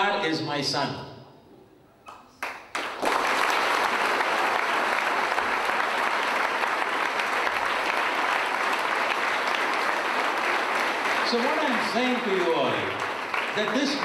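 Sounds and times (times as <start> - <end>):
audience applauding: 2.3 - 14.0.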